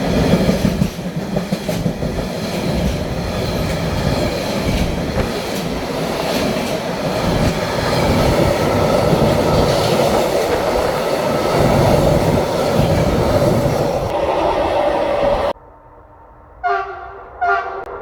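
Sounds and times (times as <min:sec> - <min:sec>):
train rumbling past on rails: 0:00.0 - 0:18.0.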